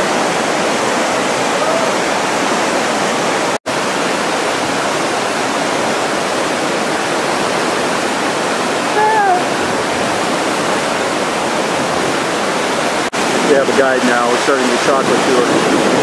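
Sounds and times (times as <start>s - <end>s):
river rapids rushing: 0.0s - 16.0s.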